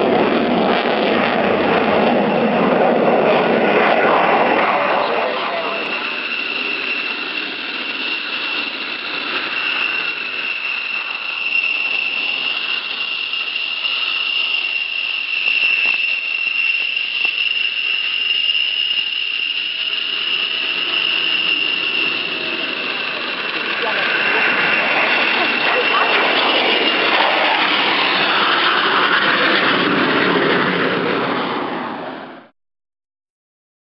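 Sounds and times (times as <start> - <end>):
jet engine whining: 0.0 - 32.5.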